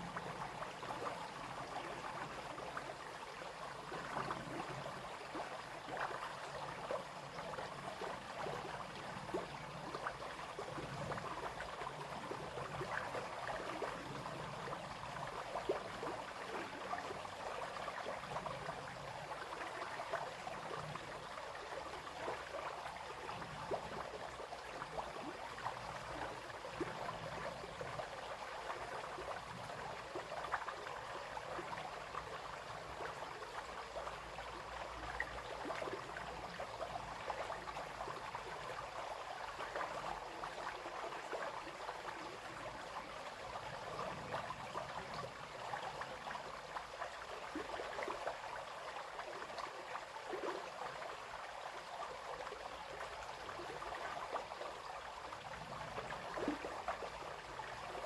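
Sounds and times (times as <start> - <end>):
brook babbling over stones: 0.0 - 58.0.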